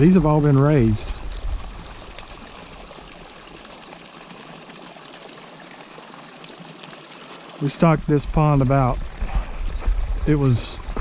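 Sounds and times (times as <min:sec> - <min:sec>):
water pouring and splashing into pond: 0:00.0 - 0:11.0.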